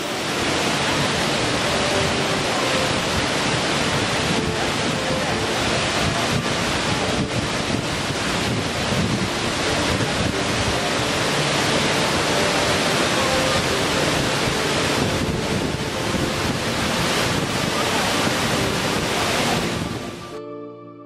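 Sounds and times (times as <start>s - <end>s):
waterfall rushing over rocks: 0.0s - 20.4s.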